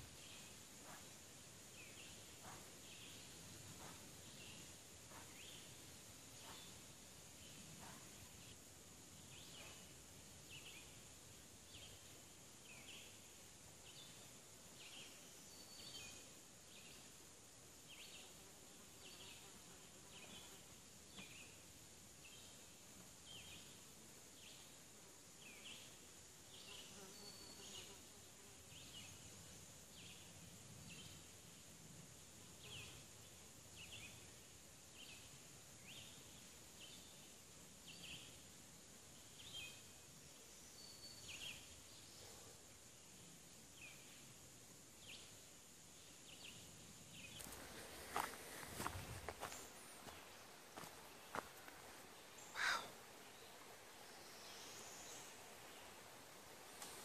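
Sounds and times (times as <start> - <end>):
high insect hum: 0.0 - 57.0.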